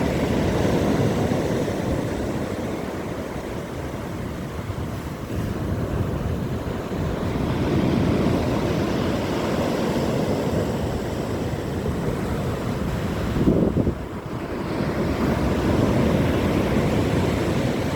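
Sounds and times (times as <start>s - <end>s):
sea waves washing in: 0.0s - 17.9s
wind buffeting microphone: 0.0s - 17.9s.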